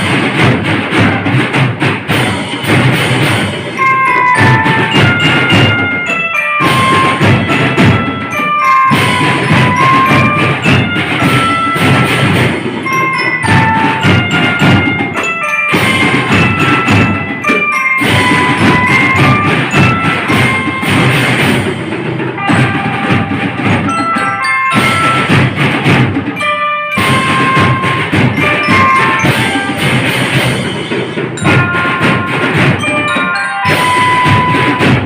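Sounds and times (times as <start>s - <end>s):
marching drums beating: 0.0s - 35.0s
glockenspiel melody: 2.1s - 35.0s.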